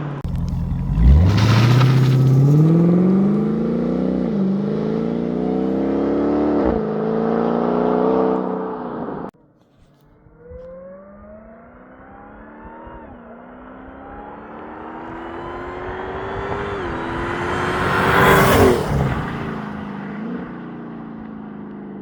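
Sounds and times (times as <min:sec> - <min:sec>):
car engine accelerating: 0:00.0 - 0:09.3, 0:10.4 - 0:22.0.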